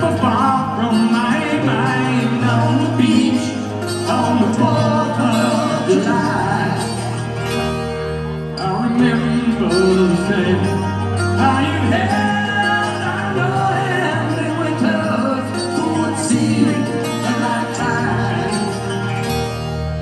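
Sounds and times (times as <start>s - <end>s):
live rock ballad: 0.0s - 20.0s.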